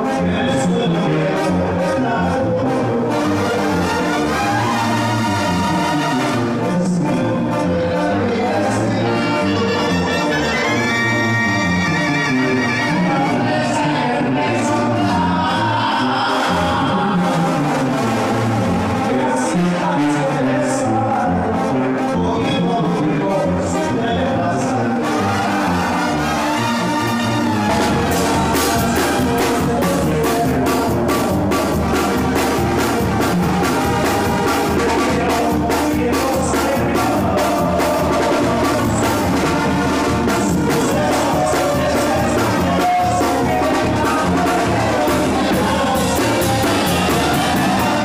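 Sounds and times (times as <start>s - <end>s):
brass band playing: 0.0s - 48.0s
drums: 0.0s - 48.0s.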